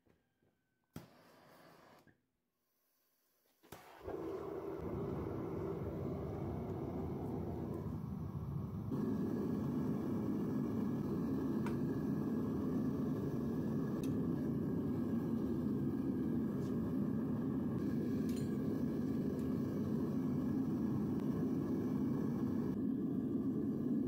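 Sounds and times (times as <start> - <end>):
propane burner rushing: 3.7 - 24.0.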